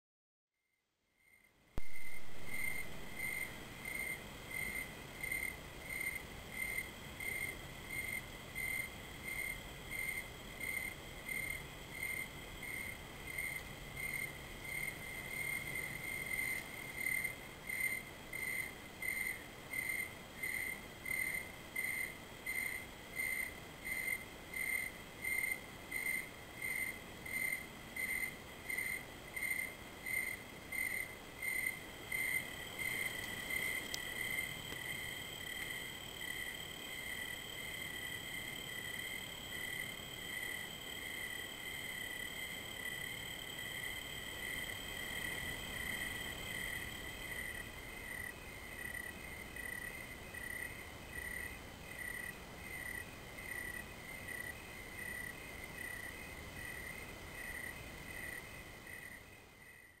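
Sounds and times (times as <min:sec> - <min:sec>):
crickets chirping: 0:01.2 - 1:00.0.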